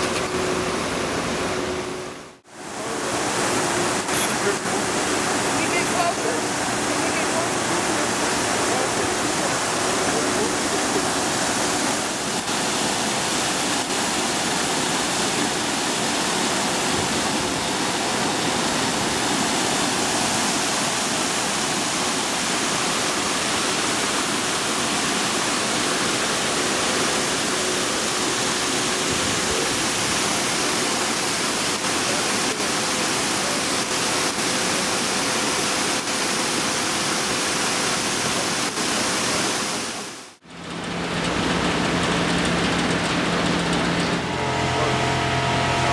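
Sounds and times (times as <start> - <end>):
wastewater gushing from pipes: 2.4 - 45.9.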